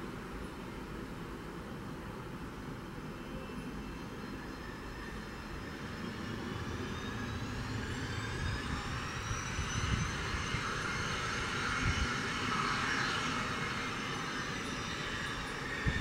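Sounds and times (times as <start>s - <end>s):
jet engine whine: 0.0s - 16.0s.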